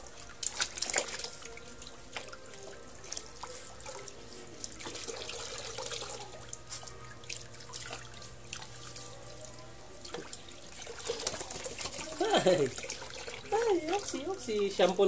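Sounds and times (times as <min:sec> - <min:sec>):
hose water pouring into basin: 0:00.0 - 0:09.0, 0:10.0 - 0:15.0
splashing water: 0:00.0 - 0:15.0.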